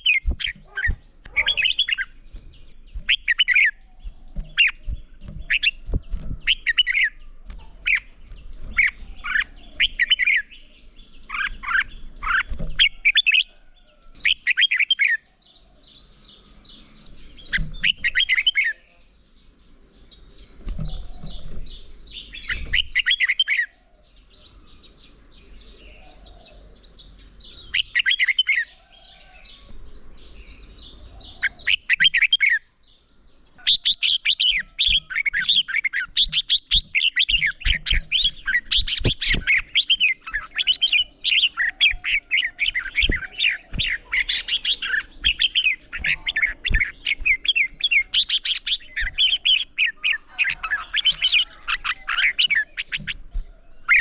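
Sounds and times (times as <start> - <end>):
bulbuls singing: 0.0 - 54.0
scratchy bird chatter: 0.0 - 54.0.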